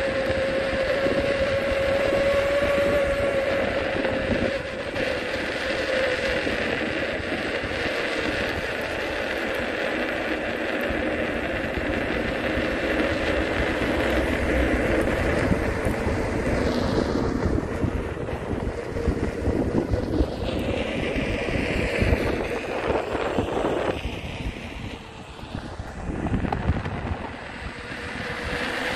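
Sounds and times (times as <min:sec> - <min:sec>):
street traffic: 0:00.0 - 0:28.9
vehicles passing by: 0:00.0 - 0:28.9
wind buffeting microphone: 0:00.0 - 0:28.9.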